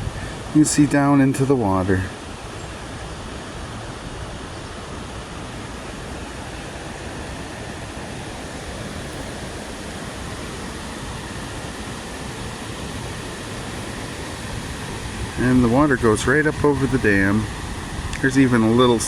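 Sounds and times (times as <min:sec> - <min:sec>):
water rushing over dam: 0:00.0 - 0:19.0.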